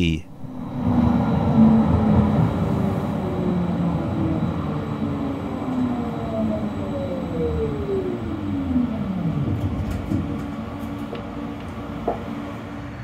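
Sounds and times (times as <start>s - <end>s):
tram rolling rumble: 0.0s - 13.0s.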